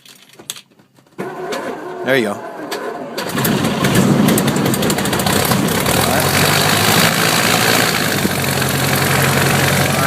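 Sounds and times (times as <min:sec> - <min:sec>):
aircraft engine idling: 0:01.2 - 0:10.0.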